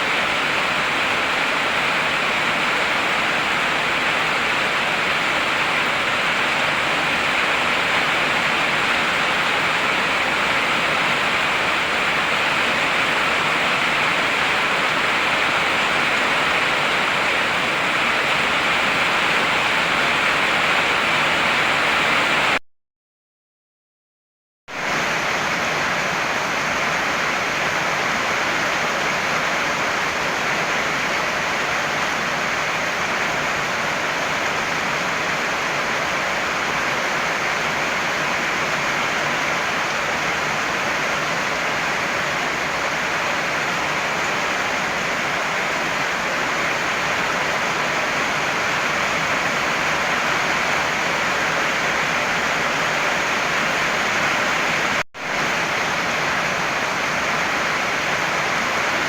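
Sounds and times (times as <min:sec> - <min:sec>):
heavy rain falling: 0:00.0 - 0:22.6, 0:24.7 - 0:59.0.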